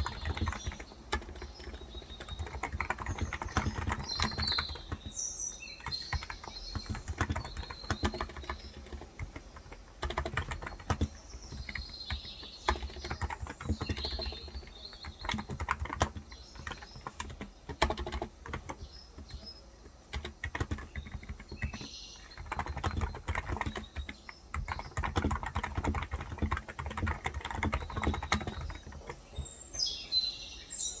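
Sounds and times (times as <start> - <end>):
keyboard typing: 0.0 - 29.6
birds chirping: 0.0 - 31.0.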